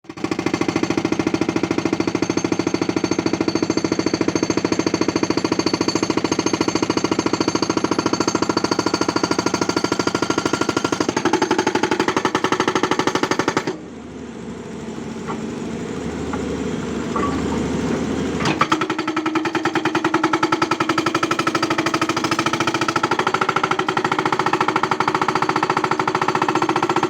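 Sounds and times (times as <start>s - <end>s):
hydraulic breaker hammering: 0.2s - 13.8s, 15.2s - 27.0s.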